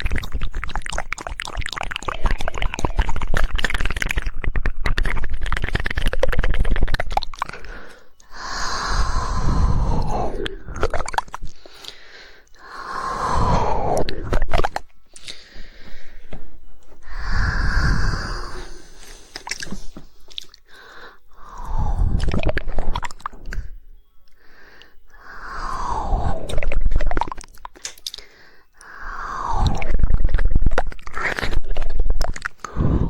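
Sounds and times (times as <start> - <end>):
tongue clicks: 0.0 - 12.0, 13.4 - 15.5, 17.1 - 20.8, 21.4 - 33.0
wet breathy mouth sounds: 0.0 - 33.0.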